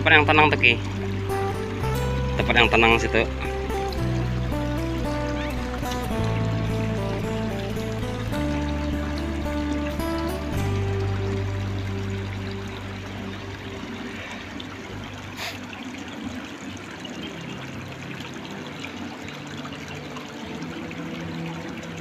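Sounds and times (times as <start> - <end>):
river water running and trickling: 0.0 - 22.0.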